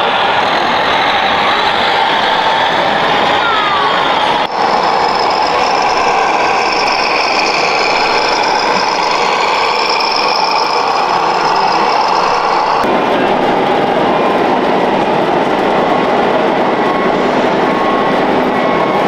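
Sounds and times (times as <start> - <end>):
toy truck diesel engine sound: 0.0 - 19.0.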